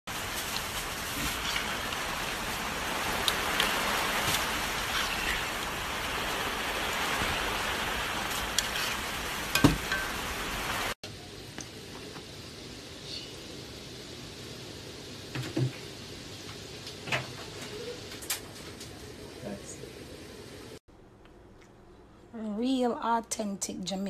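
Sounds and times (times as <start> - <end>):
dumplings deep-frying in oil: 0.1 - 20.8.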